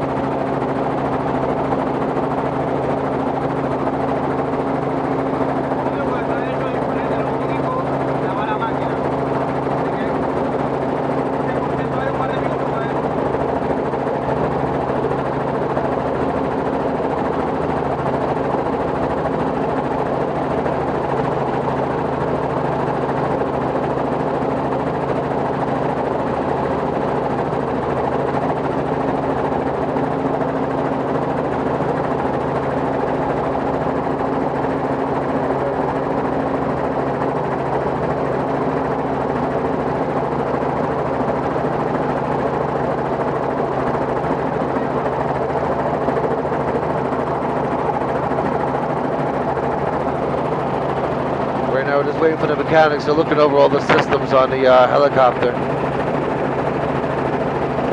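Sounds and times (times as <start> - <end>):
helicopter engine and rotors droning: 0.0 - 57.9.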